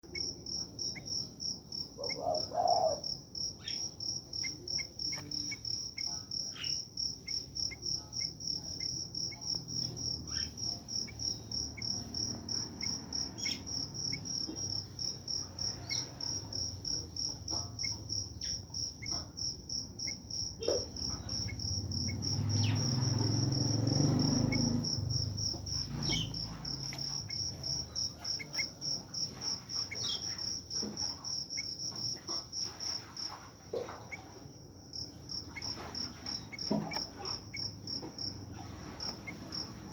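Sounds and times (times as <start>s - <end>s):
cricket-like insect trilling: 0.1s - 33.4s, 34.1s - 39.9s.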